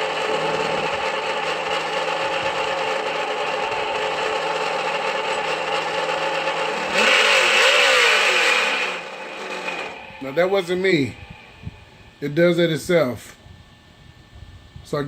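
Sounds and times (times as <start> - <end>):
simulated engine through small speaker: 0.0 - 13.3.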